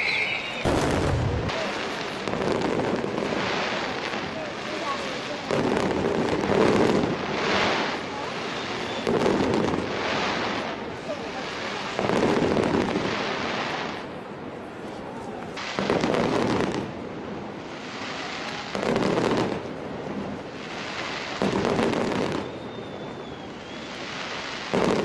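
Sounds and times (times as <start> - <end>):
fireworks bursting: 0.0 - 14.6, 15.5 - 25.0
fireworks crackling: 0.0 - 25.0.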